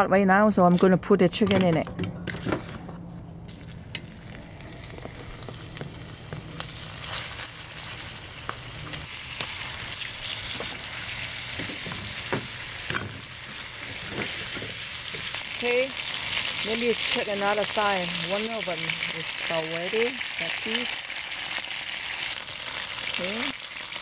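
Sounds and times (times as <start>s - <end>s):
chicken sizzling in hot oil: 3.5s - 24.0s.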